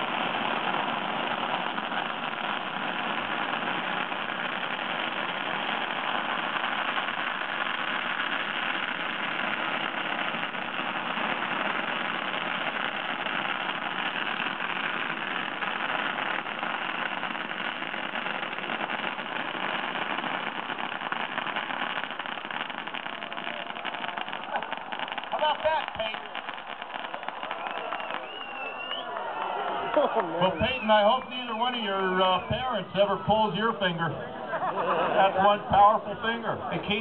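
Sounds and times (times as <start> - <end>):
firecrackers crackling: 0.0 - 37.0.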